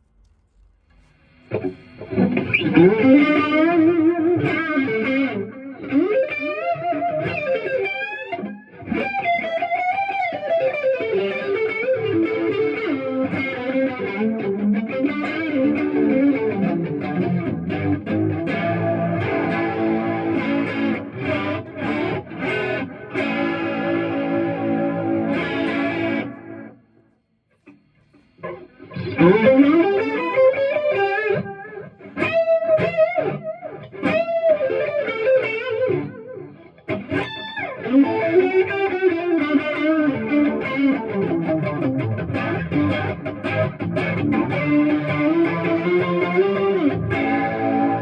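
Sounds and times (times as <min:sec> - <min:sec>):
electric guitar with chorus: 0:01.0 - 0:48.0.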